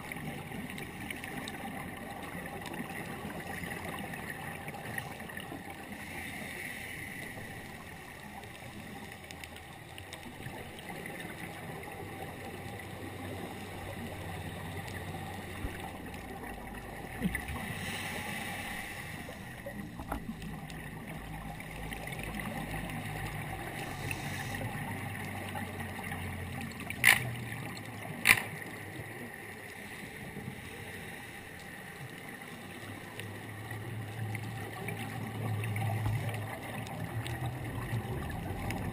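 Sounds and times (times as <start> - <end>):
gurgling regulator bubbles: 0.0 - 38.9
muffled underwater hiss: 0.0 - 38.9.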